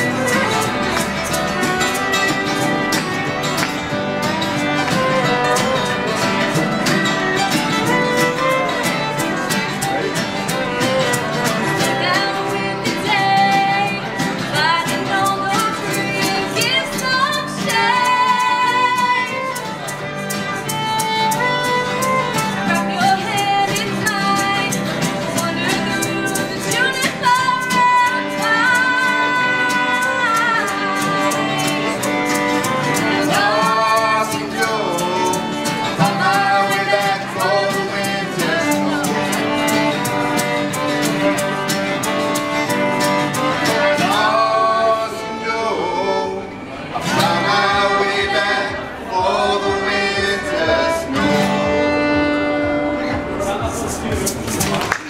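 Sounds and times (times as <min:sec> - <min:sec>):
fiddle melody: 0:00.0 - 0:54.9
folk band playing: 0:00.0 - 0:55.0.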